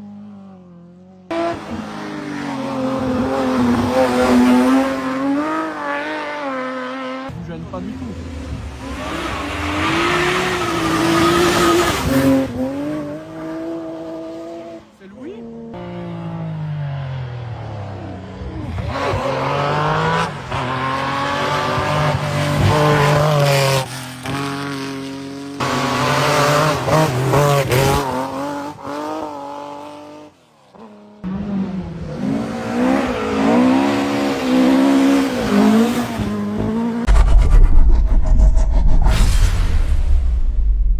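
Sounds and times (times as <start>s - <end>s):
rally car engines revving: 0.0s - 38.1s.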